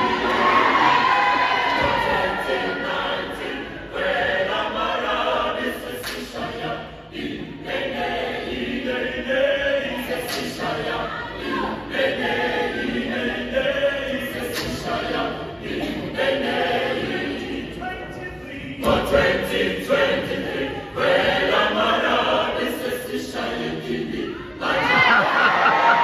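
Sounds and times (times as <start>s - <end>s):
mixed choir singing a cappella: 0.0s - 26.0s.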